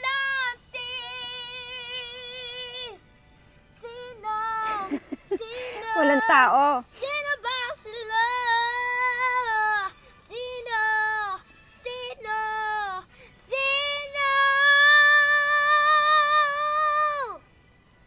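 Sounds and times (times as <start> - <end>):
girl singing: 0.0 - 3.0, 3.8 - 17.6.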